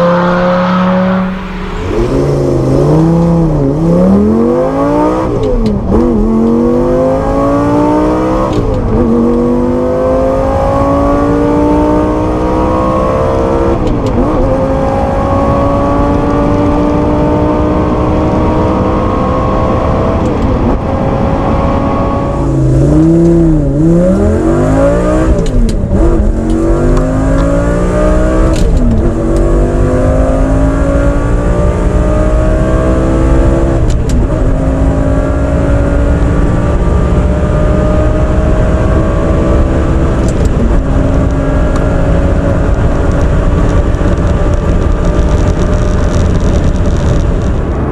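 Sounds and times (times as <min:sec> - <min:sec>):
sports car engine revving through gears: 0:02.0 - 0:47.9.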